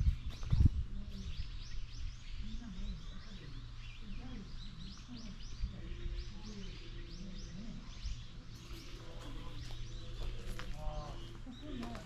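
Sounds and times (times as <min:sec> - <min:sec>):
small birds chirping: 0:00.0 - 0:12.0
murmur of voices: 0:00.7 - 0:12.0.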